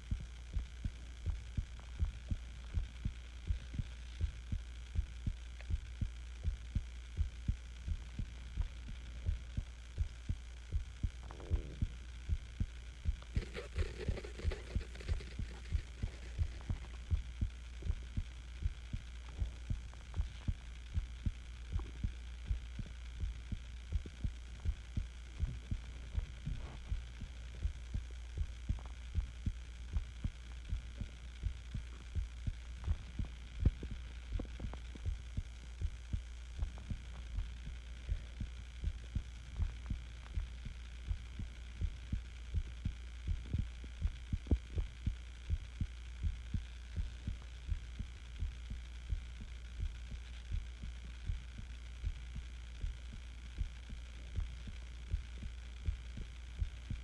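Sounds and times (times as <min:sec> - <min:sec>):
constant low hum: 0:00.0 - 0:57.0
heartbeat thumps: 0:00.0 - 0:57.0.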